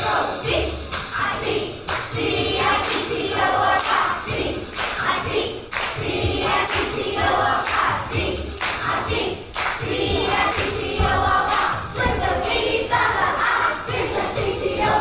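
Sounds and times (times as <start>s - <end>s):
children singing: 0.0s - 15.0s
music with low beat: 0.0s - 15.0s.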